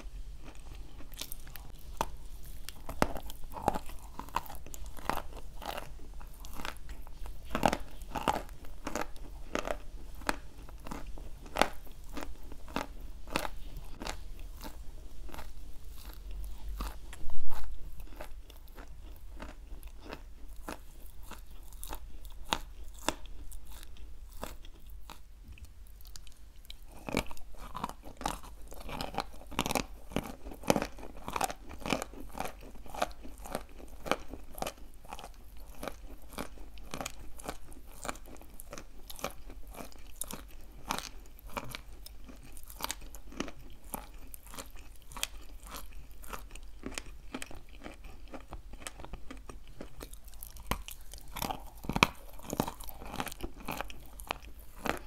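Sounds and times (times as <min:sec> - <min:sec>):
chalk being chewed: 0:00.0 - 0:55.0.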